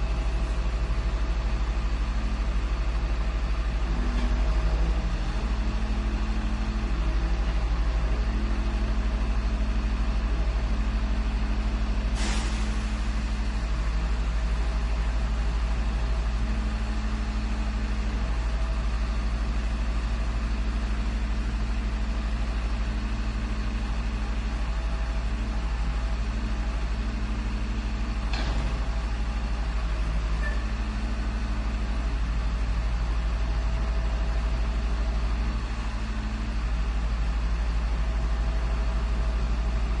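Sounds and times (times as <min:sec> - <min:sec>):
garbage truck engine idling: 0:00.0 - 0:40.0.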